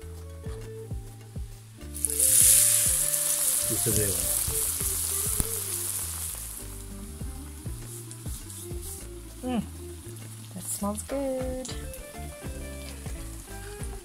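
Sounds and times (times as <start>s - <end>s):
frying hiss: 1.5s - 14.0s
batter sizzling in hot oil: 1.8s - 14.0s.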